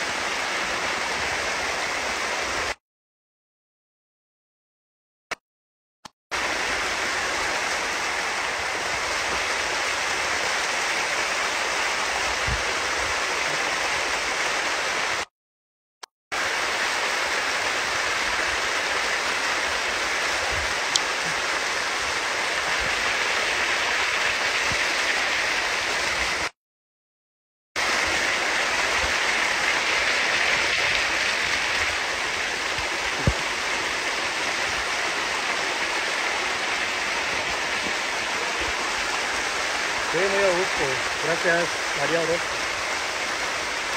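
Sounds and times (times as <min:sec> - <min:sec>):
water rushing over rocks: 0:00.0 - 0:02.8, 0:06.3 - 0:15.3, 0:16.4 - 0:26.6, 0:27.8 - 0:43.9.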